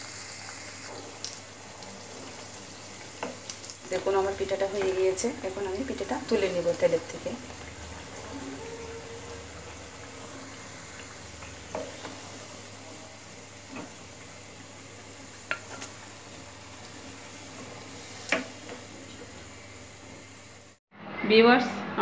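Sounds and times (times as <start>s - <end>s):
food sizzling in frying oil: 0.0s - 20.8s.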